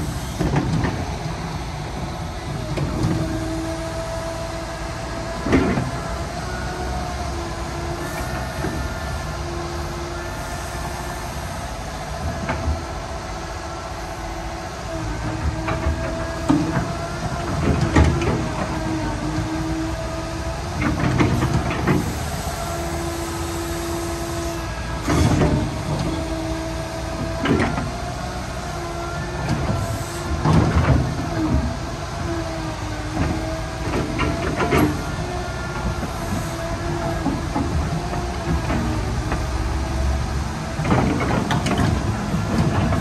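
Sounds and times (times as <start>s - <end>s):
excavator diesel engine: 0.0s - 43.0s.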